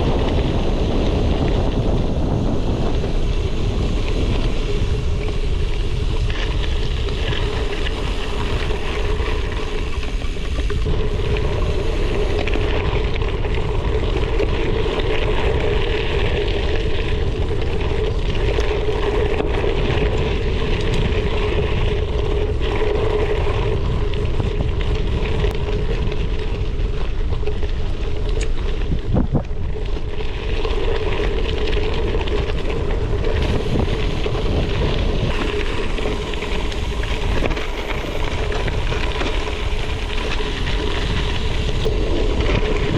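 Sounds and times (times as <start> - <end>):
tyres rolling on gravel: 0.0 - 42.9
wind on microphone: 0.0 - 42.9.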